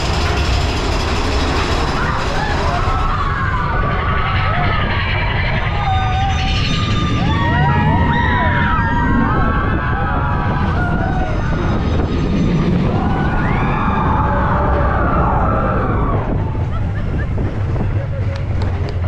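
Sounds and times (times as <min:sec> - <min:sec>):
roller coaster train rumbling: 0:00.0 - 0:19.0
riders screaming: 0:01.7 - 0:17.2.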